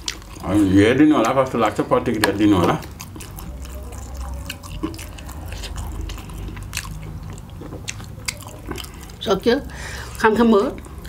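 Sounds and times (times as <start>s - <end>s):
low steady hum: 0.0s - 11.0s
people chewing food: 0.0s - 11.0s.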